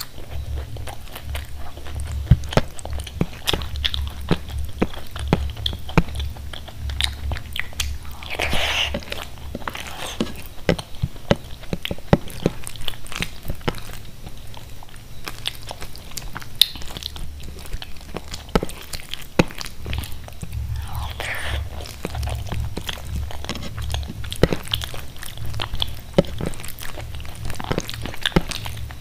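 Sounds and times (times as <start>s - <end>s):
low hum: 0.0s - 29.0s
wet chewing with mouth clicks: 0.0s - 29.0s.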